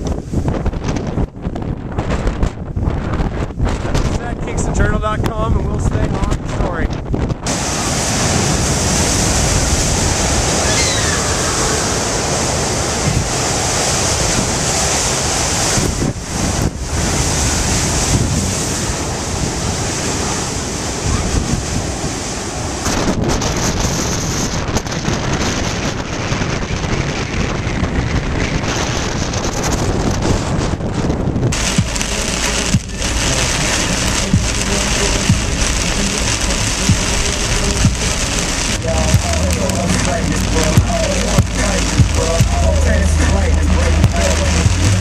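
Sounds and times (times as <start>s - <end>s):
heavy ocean surf: 0.0s - 45.0s
wind buffeting microphone: 0.0s - 45.0s.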